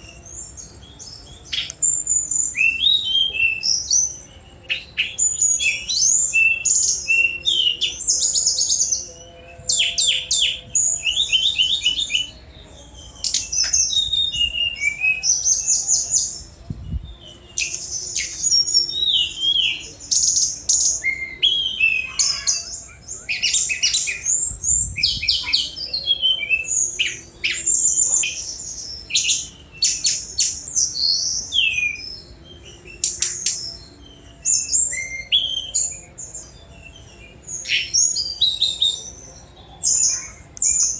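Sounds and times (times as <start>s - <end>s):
songbird trilling and whistling: 0.0s - 40.9s.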